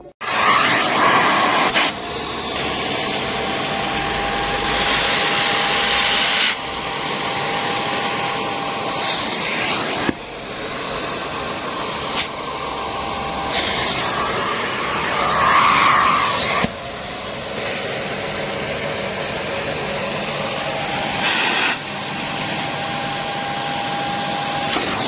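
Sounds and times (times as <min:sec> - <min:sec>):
suction motor rushing air: 0:00.2 - 0:25.0.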